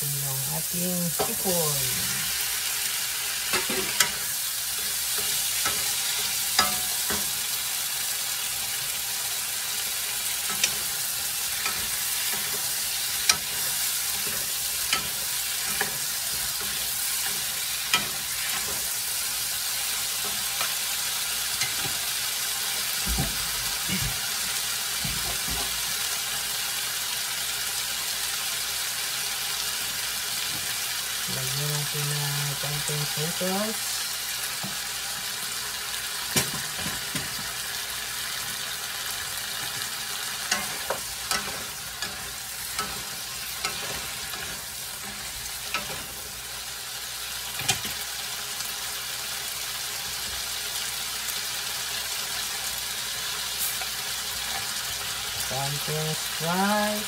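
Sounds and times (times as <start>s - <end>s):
shrimp sizzling in oil: 0.0s - 57.0s.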